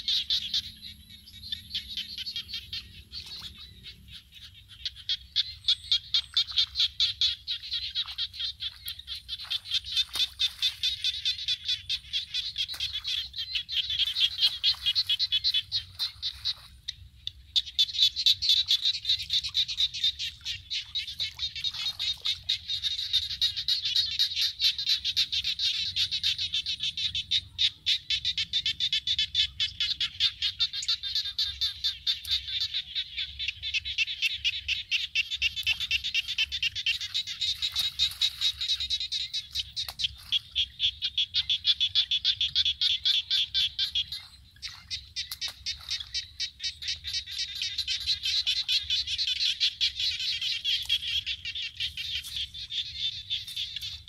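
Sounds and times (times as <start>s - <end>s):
chorus of frogs calling: 0.0s - 54.0s.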